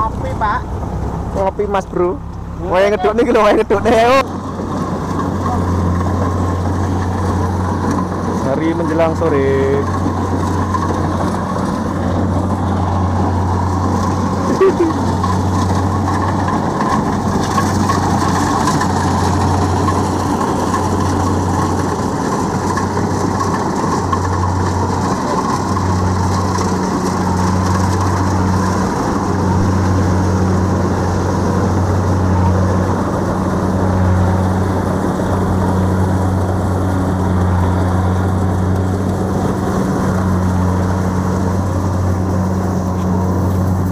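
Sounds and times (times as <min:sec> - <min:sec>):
combine harvester engine droning: 0:00.0 - 0:43.9.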